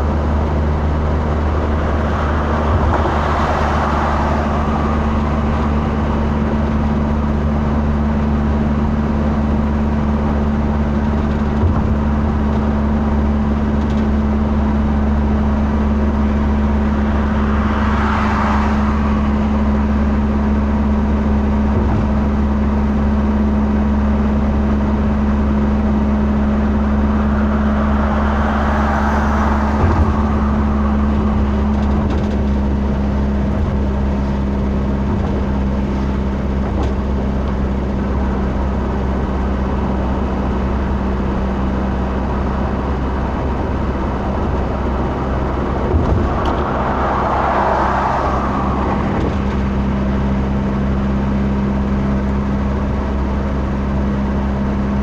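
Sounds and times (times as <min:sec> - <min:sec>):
passing traffic: 0:00.0 - 0:55.0
road noise: 0:00.0 - 0:55.0
vehicle engine drone: 0:00.0 - 0:55.0.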